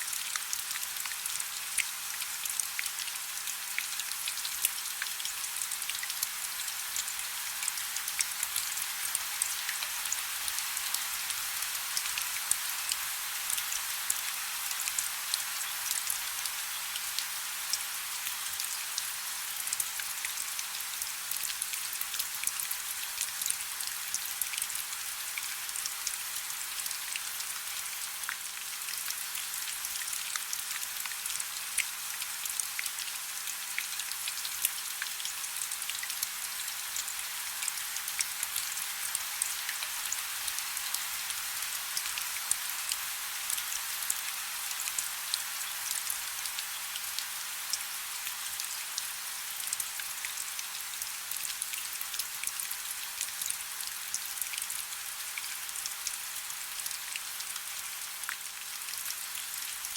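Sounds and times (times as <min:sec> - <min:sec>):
soft rain with drop ticks: 0:00.0 - 0:59.9.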